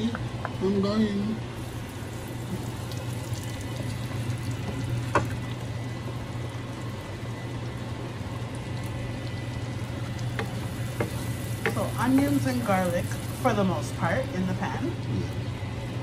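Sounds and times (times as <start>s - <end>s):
vent fan hum: 0.0s - 16.0s
onions sizzling in butter: 1.6s - 16.0s.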